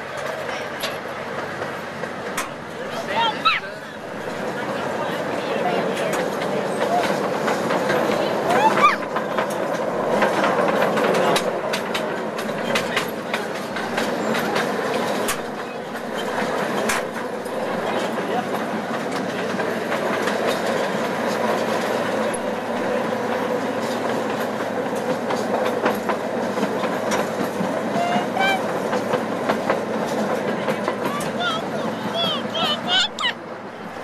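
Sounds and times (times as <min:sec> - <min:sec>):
train rumbling and rattling: 0:00.0 - 0:34.0
sharp clicks from wheels: 0:00.1 - 0:02.7, 0:05.8 - 0:33.3.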